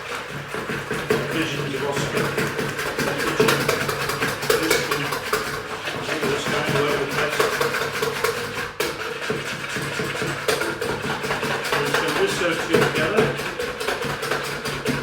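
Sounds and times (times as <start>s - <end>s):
whisk clinking and scraping bowl: 0.0s - 15.0s.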